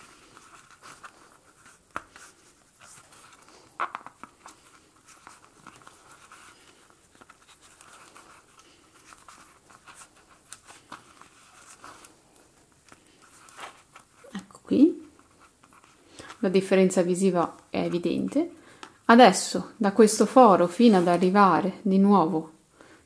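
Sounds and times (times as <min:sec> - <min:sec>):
rustle of cord and hands: 0:00.0 - 0:19.1.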